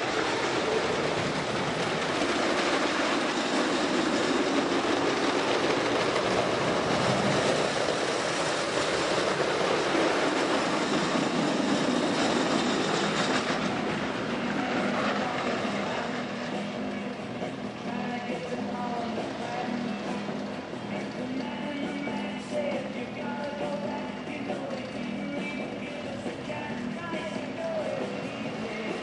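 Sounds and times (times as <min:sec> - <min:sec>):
roller coaster rumbling on wooden track: 0:00.0 - 0:29.0.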